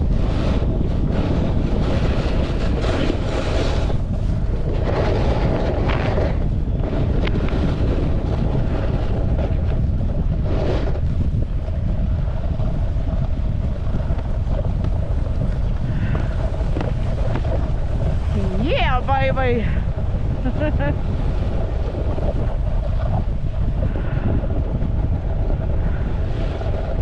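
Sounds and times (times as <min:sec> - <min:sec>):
snowboard scraping over snow: 0:00.0 - 0:27.0
wind buffeting microphone: 0:00.0 - 0:27.0.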